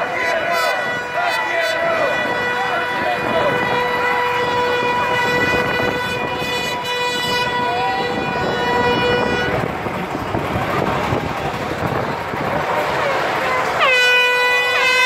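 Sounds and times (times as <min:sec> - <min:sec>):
horn blowing long note: 0:00.0 - 0:15.0
large crowd noise: 0:00.0 - 0:15.0.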